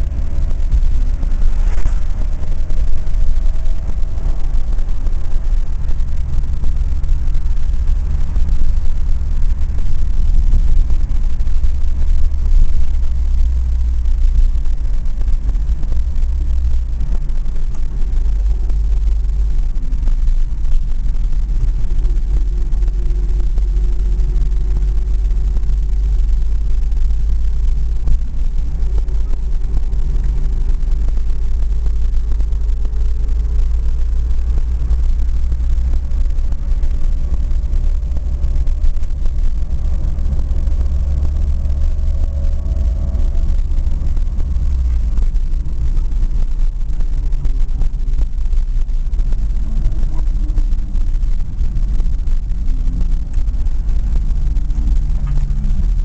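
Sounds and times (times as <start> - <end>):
car engine and road rumble: 0.0 - 56.0
faint rising whine: 0.0 - 56.0.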